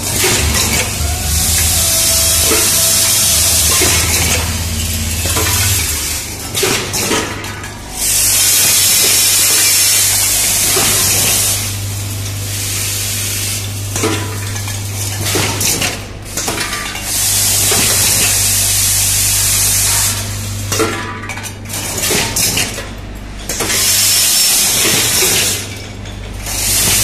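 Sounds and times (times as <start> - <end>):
bowl feeder electric hum: 0.0 - 27.0.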